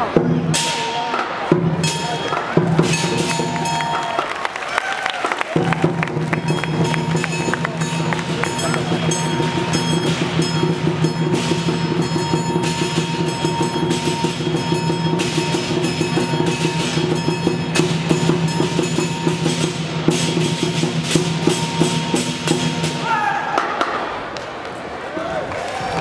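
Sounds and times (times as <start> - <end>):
drum beaten fast: 0.0 - 23.9
hand cymbals clashing: 0.5 - 4.4, 5.6 - 23.0.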